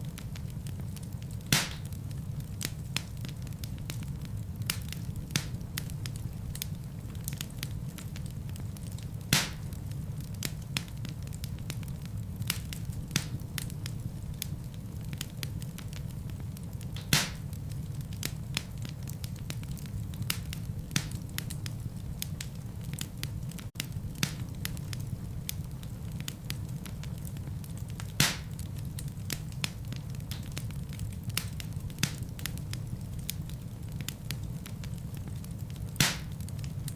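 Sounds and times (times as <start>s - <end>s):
fire crackling and snapping: 0.0s - 36.9s
fire flames rumbling: 0.0s - 36.9s
loud fire pops: 0.1s - 36.9s.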